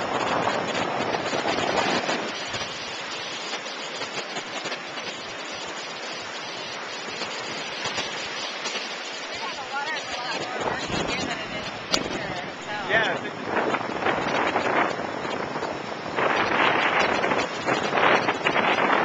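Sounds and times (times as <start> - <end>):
lake waves washing on shore: 0.0 - 19.0
wind buffeting microphone: 0.0 - 19.0.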